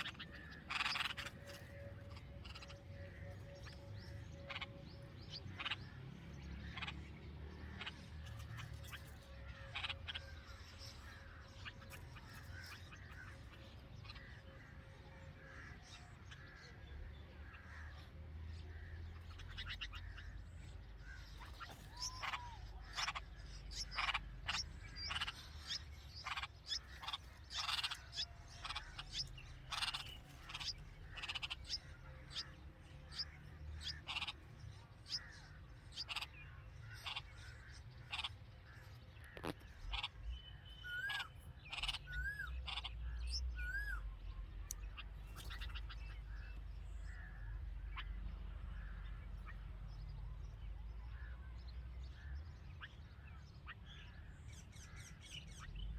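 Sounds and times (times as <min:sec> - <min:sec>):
bulbuls chirping: 0:00.0 - 0:55.9.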